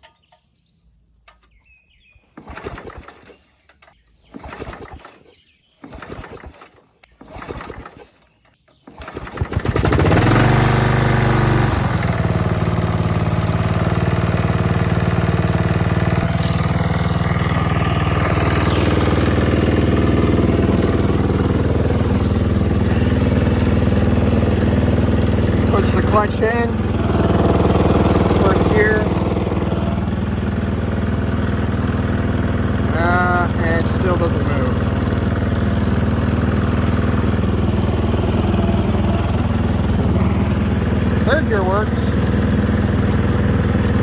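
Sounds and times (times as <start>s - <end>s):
riding mower engine cranking and running: 0.0s - 44.0s.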